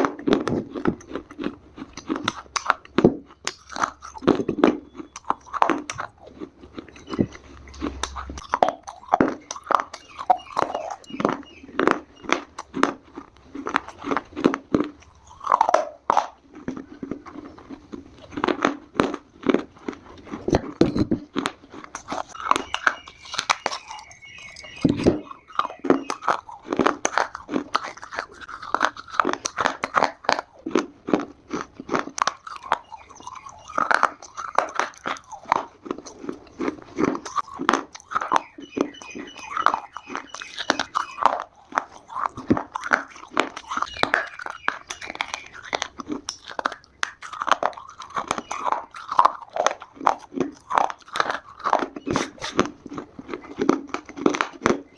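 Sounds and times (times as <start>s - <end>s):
dry clay being chewed: 0.0s - 54.9s.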